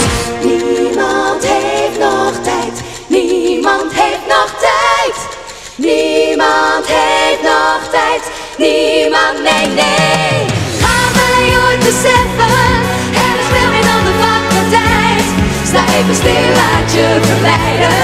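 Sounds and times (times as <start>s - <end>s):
women singing in close harmony: 0.2s - 18.0s.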